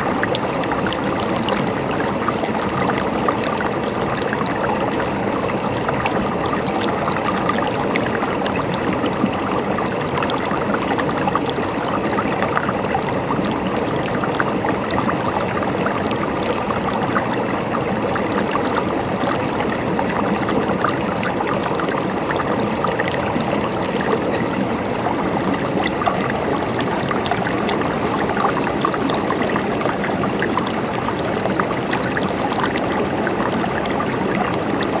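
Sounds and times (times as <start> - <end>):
stream running over stones: 0.0 - 35.0
water splashes and trickles: 0.0 - 35.0.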